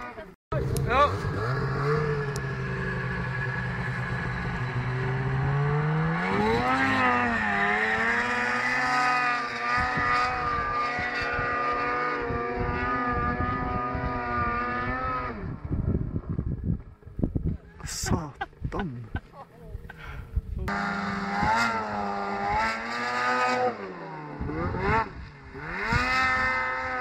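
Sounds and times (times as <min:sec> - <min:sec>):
snowmobile engine revving: 0:00.0 - 0:16.0, 0:17.6 - 0:27.0.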